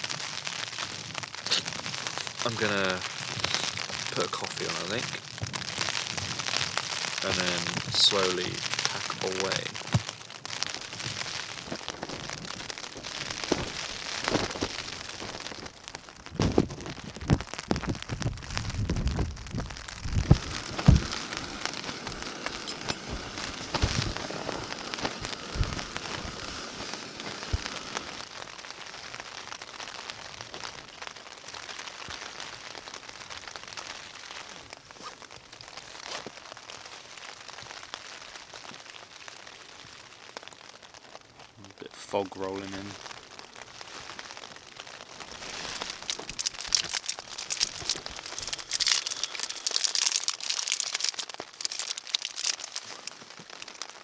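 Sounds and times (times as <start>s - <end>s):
rain pattering on a tent: 0.0s - 54.0s.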